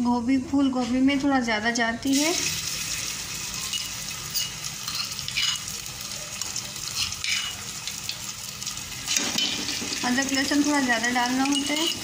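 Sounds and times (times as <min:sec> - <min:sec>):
paste sizzling in hot oil: 0:02.1 - 0:12.0.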